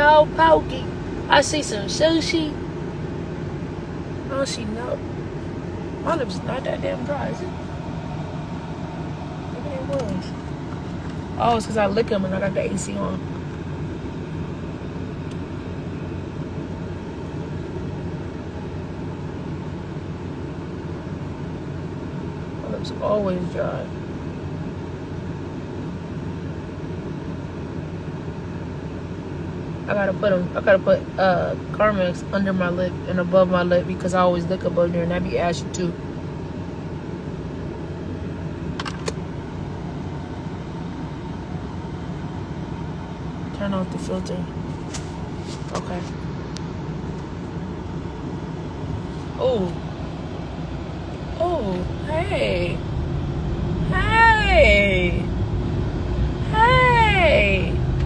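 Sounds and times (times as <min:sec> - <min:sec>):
air conditioning blowing: 0:00.0 - 0:58.0
car road and engine noise: 0:00.0 - 0:58.0.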